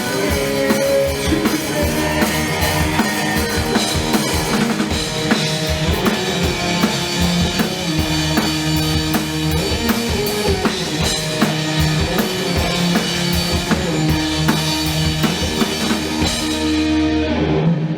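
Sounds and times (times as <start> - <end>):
drum kit beat: 0.0 - 17.2
live band playing loud: 0.0 - 17.6.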